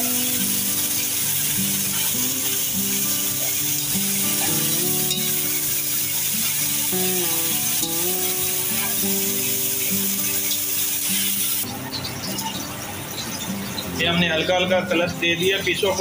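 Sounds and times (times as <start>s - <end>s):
background music with melody: 0.0s - 16.0s
chicken sizzling on hot iron: 0.0s - 16.0s.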